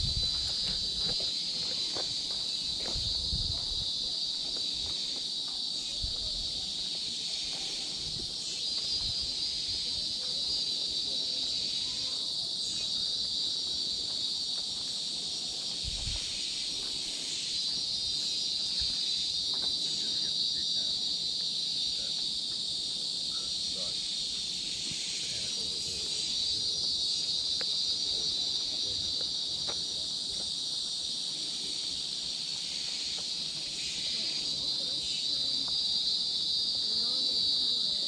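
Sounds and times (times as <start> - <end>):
insects shrill drone: 0.0 - 38.0.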